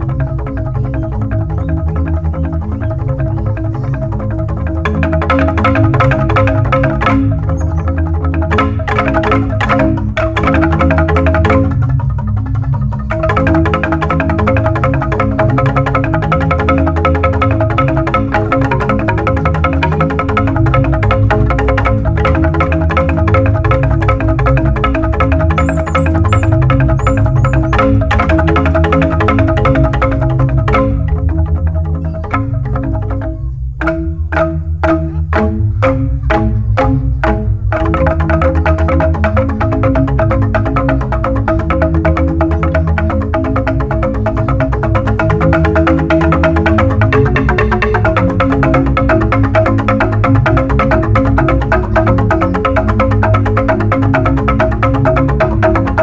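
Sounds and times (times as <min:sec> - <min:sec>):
bamboo xylophone ensemble: 0:00.0 - 0:56.0
deep sustained bass: 0:00.0 - 0:56.0.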